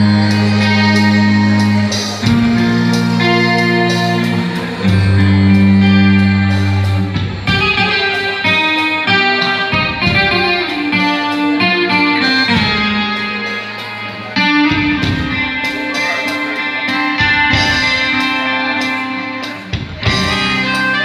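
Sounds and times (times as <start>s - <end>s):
guitar melody: 0.0s - 21.0s.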